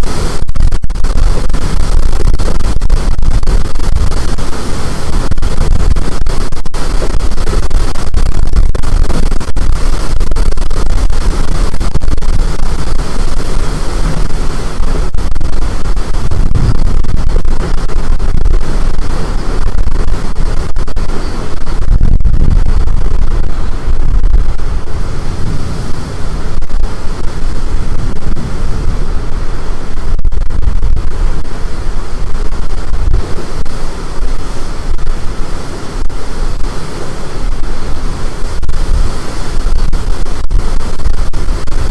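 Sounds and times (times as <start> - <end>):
storm wind blasting microphone: 0.0 - 41.9.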